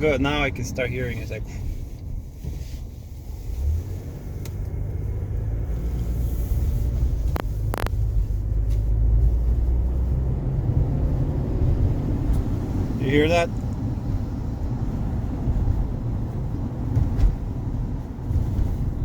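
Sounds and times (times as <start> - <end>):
wind noise rumble: 0.0 - 19.0.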